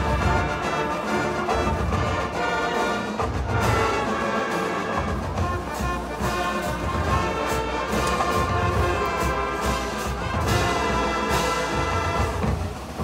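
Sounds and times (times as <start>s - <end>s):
orchestral music over loudspeaker: 0.0s - 13.0s.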